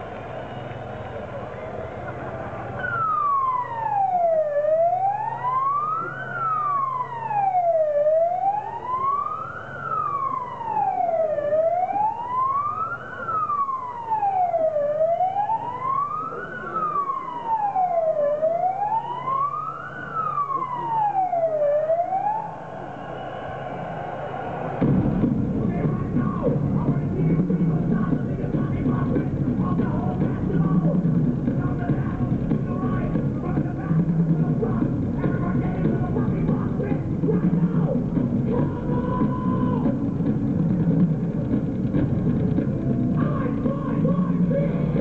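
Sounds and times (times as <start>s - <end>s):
wailing siren: 0.0s - 40.2s.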